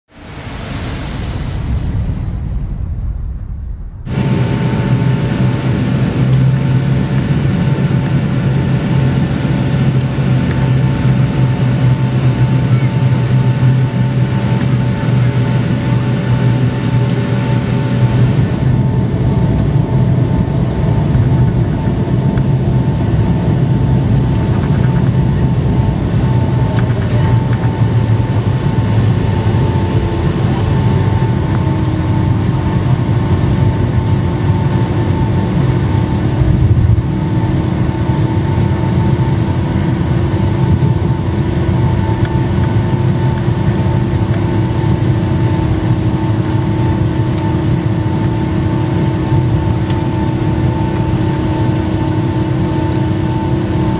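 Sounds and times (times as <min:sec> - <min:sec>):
jet engines rumbling and whining: 0:00.0 - 0:53.9
lower whine: 0:00.0 - 0:53.9.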